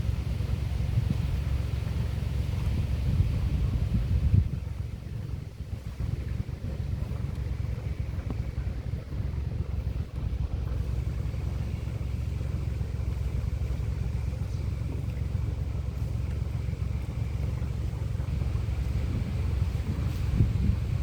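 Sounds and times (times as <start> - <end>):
boat motor rumbling: 0.0 - 21.0.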